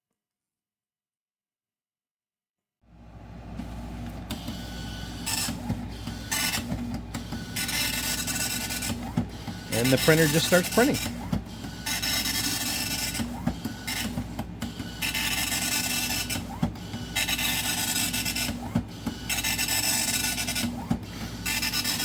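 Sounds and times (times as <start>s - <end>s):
dot-matrix printer printing: 4.2s - 22.0s.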